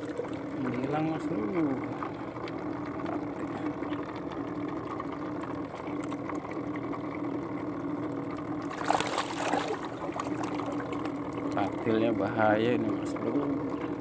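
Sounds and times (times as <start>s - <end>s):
mechanical whirring hum: 0.0s - 14.0s.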